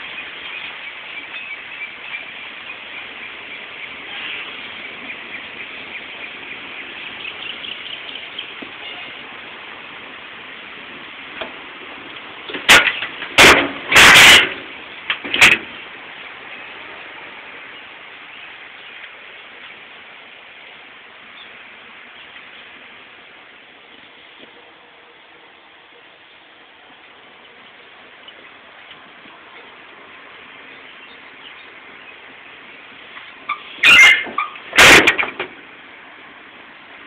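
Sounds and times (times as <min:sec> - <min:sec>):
steady outdoor hiss: 0:00.0 - 0:37.0.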